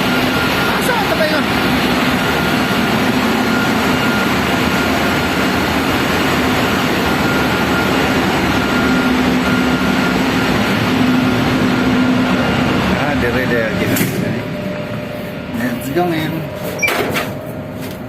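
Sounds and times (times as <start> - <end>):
machinery low hum: 0.0 - 18.0
machinery whine: 0.0 - 18.0.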